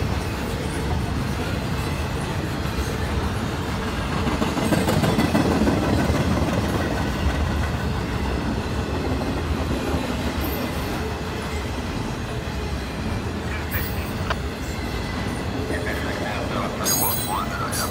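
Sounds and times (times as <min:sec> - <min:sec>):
freight train rumbling past: 0:00.0 - 0:17.9.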